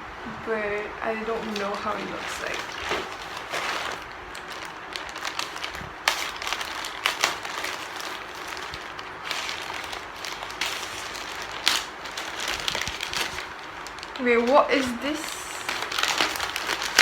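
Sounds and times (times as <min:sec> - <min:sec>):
plastic crinkling: 0:01.2 - 0:17.0
packaging being torn open: 0:01.4 - 0:17.0
sharp crackles: 0:01.4 - 0:17.0.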